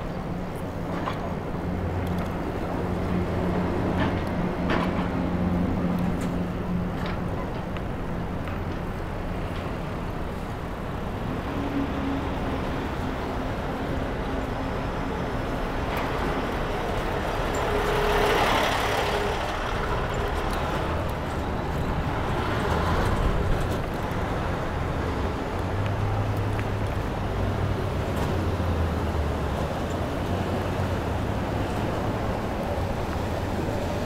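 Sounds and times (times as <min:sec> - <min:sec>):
road noise: 0:00.0 - 0:34.0.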